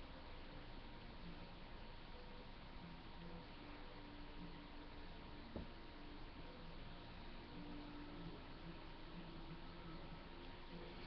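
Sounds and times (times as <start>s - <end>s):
faint low hums: 0.0s - 11.0s.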